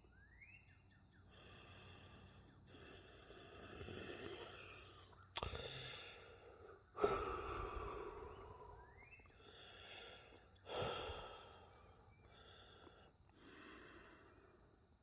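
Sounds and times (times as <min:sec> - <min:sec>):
person breathing: 0:01.3 - 0:08.8, 0:09.4 - 0:14.8.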